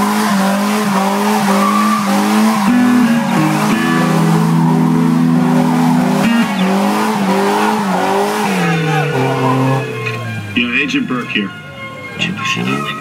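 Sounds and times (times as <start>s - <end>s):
car engine revving high: 0.0s - 11.3s, 12.3s - 13.0s
tyres squealing: 0.0s - 13.0s.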